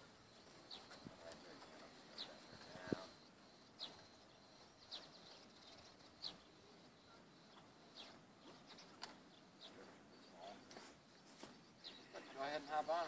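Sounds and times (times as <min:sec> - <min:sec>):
high falling bird chirps: 0:00.0 - 0:13.0.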